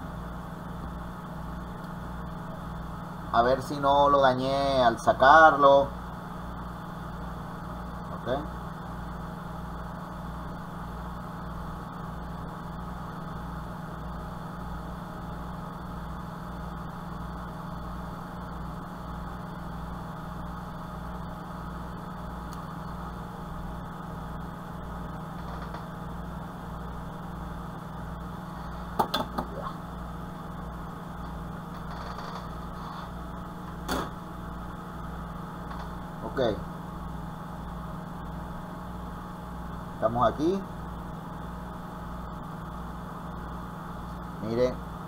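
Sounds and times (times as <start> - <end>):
pulsing low machine hum: 0.0 - 45.0.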